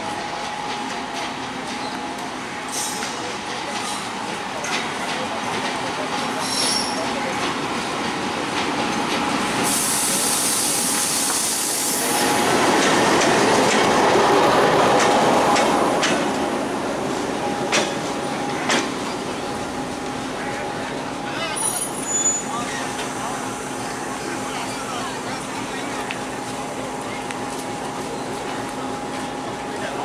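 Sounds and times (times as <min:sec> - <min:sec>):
diesel locomotive passing: 0:00.0 - 0:30.0.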